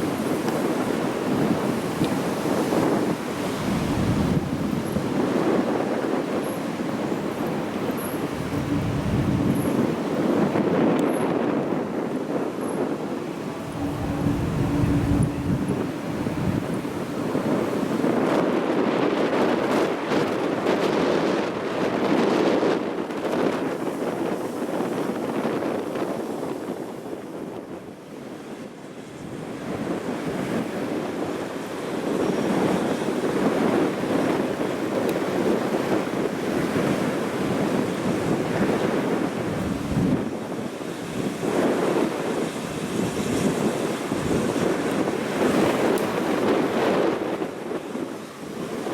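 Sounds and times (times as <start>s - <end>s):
strong wind buffeting microphone: 0.0s - 48.9s.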